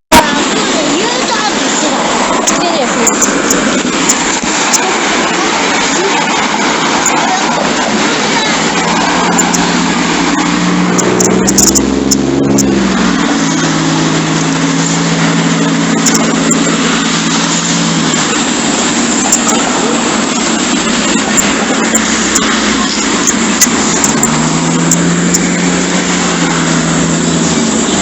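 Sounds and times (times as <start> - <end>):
loud steady rushing noise: 0.0 - 28.0
vehicle engine running: 0.0 - 28.0.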